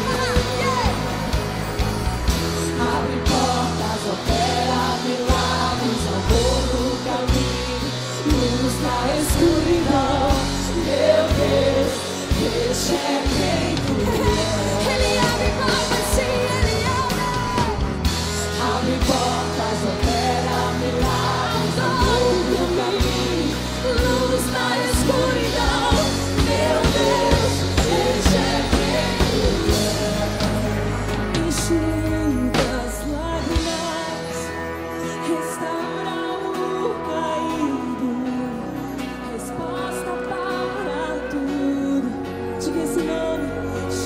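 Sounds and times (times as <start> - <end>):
worship band playing live: 0.0 - 44.0
people singing into microphones: 2.3 - 44.0.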